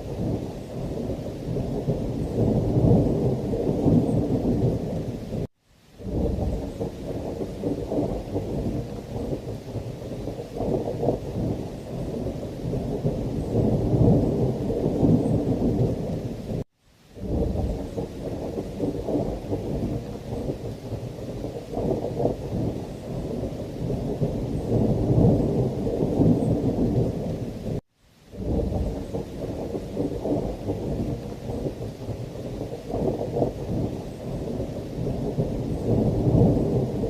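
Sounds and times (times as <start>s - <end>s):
rolling thunder: 0.0s - 16.6s, 17.2s - 27.8s, 28.4s - 37.0s
rain: 0.0s - 37.0s.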